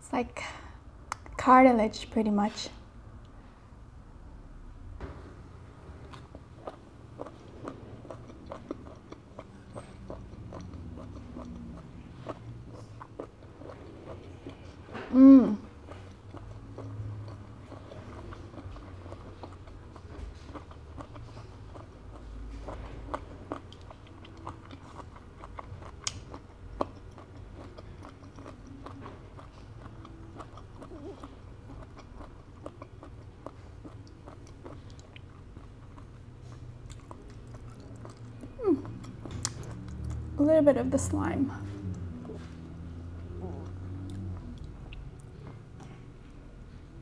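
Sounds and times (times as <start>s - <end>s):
wet chewing clicks and smacks: 6.0s - 14.9s, 15.8s - 40.4s, 41.7s - 46.4s.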